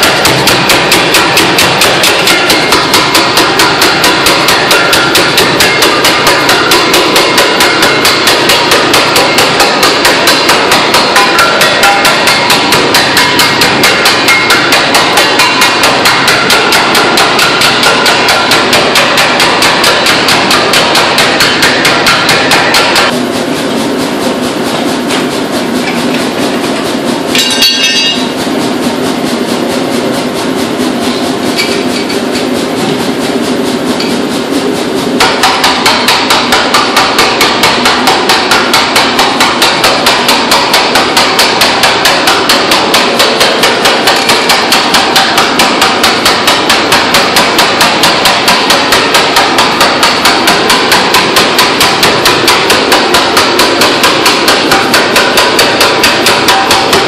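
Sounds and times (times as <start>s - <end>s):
hammer striking hot steel: 0.0s - 57.0s.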